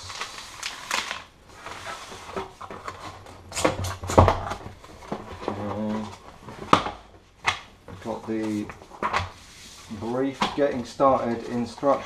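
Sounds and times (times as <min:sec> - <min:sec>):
cardboard rustling and scraping: 0:00.0 - 0:07.0, 0:07.9 - 0:12.0.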